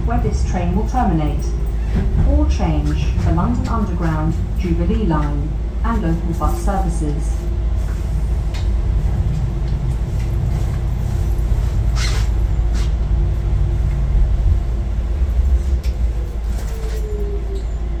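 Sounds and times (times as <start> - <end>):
train motor hum: 0.0 - 18.0
train rumbling: 0.0 - 18.0
train whine: 0.0 - 18.0.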